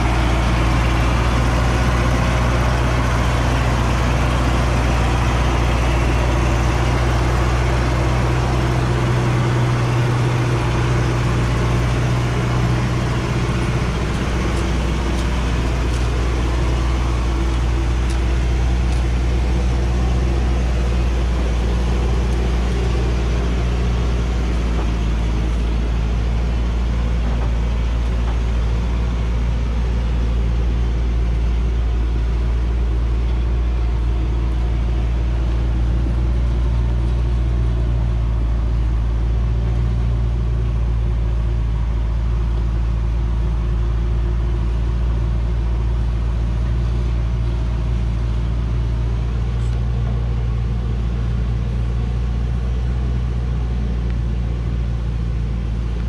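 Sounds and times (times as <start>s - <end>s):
truck engine droning under load: 0.0s - 56.0s.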